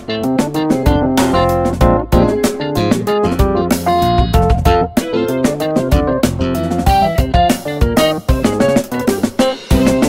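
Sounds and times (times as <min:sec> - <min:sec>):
drum kit steady beat: 0:00.0 - 0:10.0
plucked guitar: 0:00.0 - 0:10.0.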